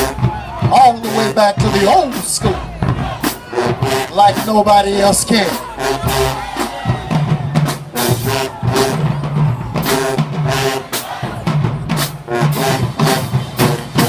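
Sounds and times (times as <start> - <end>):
drumline beat: 0.0 - 14.0
sustained horn notes: 0.0 - 14.0.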